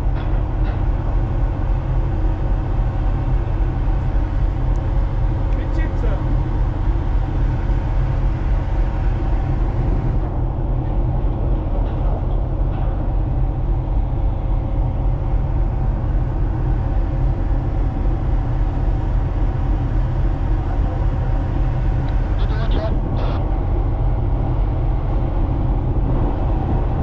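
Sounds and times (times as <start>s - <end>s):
droning hum: 0.0s - 27.0s
ship machinery rumble: 0.0s - 27.0s.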